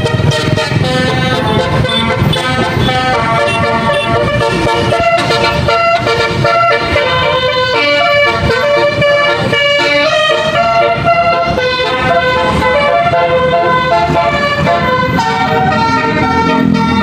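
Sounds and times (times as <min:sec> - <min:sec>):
multi-tone bus horn playing tune: 0:00.0 - 0:17.0.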